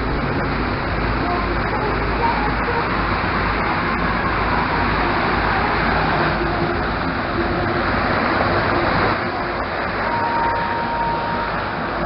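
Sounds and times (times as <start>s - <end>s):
ship engine running: 0.0s - 12.0s
water rushing past hull: 0.0s - 12.0s.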